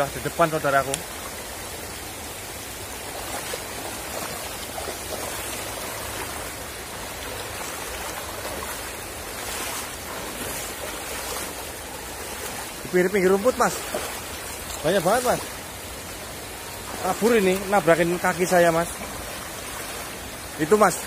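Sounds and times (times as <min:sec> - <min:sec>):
stream running over rocks: 0:00.0 - 0:21.0
person wading and splashing: 0:01.0 - 0:21.0.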